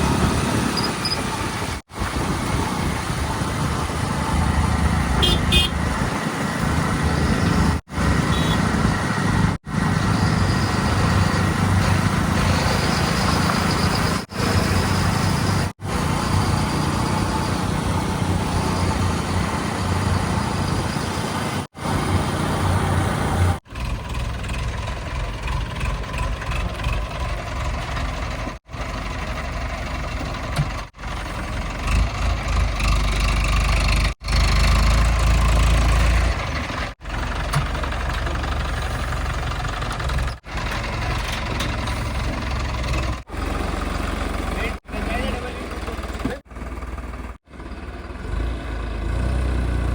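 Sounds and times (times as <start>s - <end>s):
heavy diesel machinery engines: 0.0s - 49.9s.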